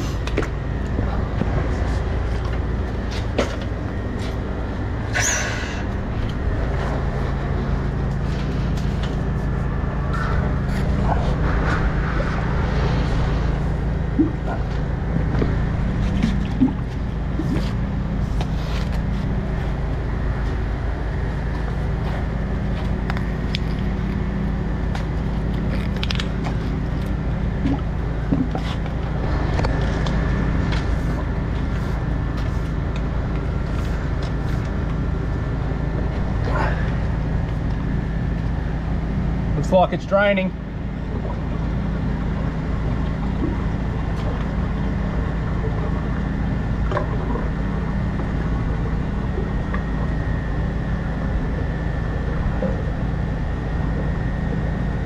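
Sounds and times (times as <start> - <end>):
sewer jetting machine engine drone: 0.0 - 55.0.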